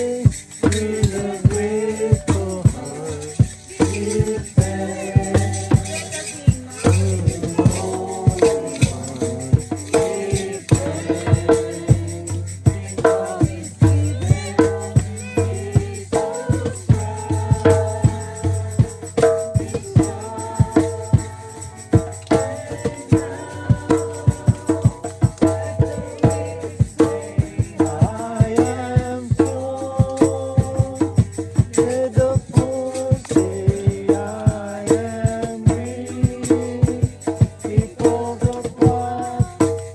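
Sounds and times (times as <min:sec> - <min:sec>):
music with percussion beat: 0:00.0 - 0:39.9.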